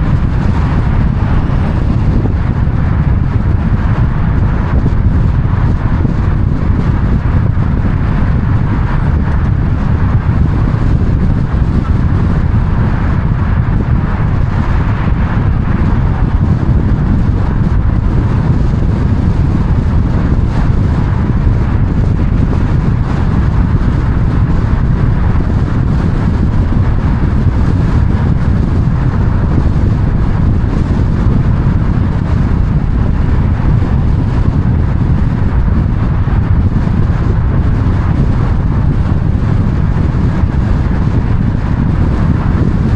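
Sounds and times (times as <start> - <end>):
car road and wind noise: 0.0 - 42.9.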